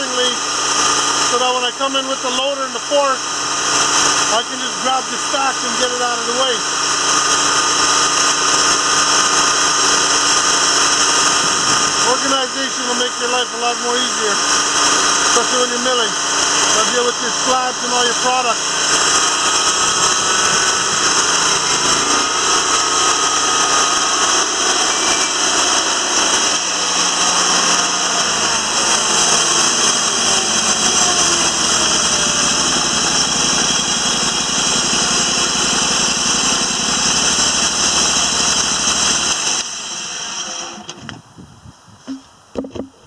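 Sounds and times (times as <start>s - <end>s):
hydraulic whine sliding in pitch: 0.0s - 41.0s
band sawmill running: 0.0s - 41.1s.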